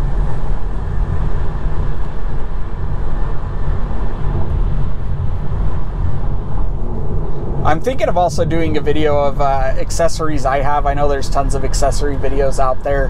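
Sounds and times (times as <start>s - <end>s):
road and tyre rumble: 0.0s - 13.0s.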